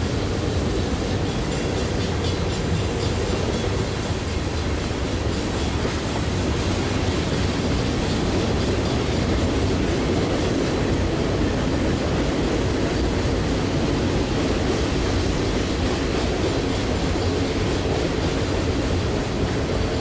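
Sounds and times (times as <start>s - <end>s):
train wheels rolling on track: 0.0s - 20.0s.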